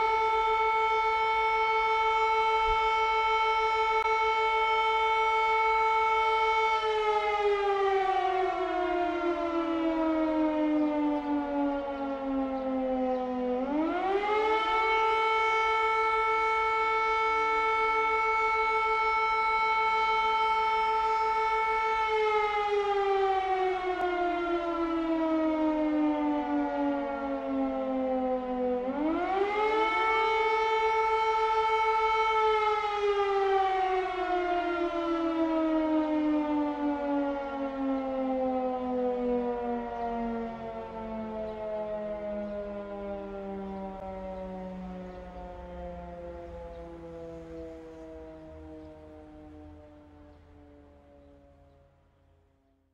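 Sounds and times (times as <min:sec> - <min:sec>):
air raid siren wailing: 0:00.0 - 0:52.9.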